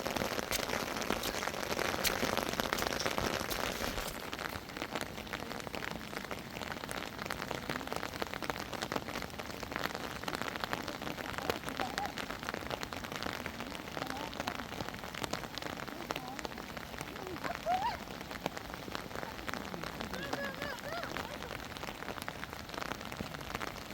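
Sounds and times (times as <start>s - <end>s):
rain drops hitting a surface: 0.0s - 23.9s.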